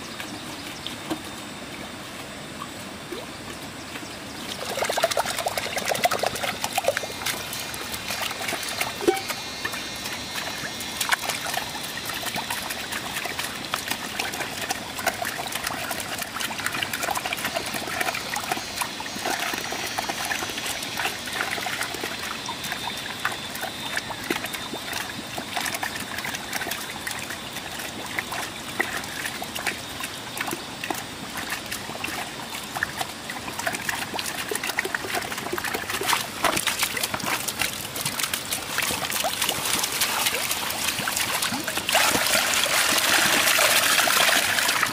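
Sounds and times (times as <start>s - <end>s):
water trickling and splashing: 0.0s - 44.9s
water drips: 3.9s - 44.9s.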